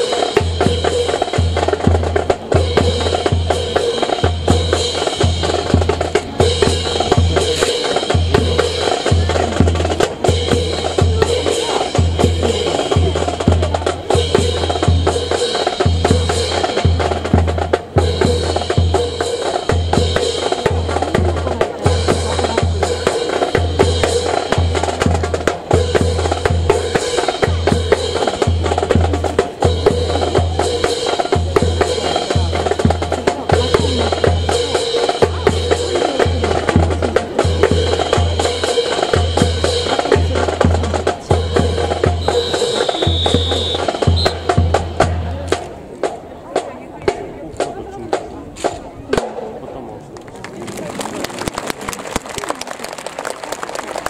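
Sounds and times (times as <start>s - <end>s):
bass drum beat: 0.0s - 46.0s
military band playing a march: 0.0s - 46.2s.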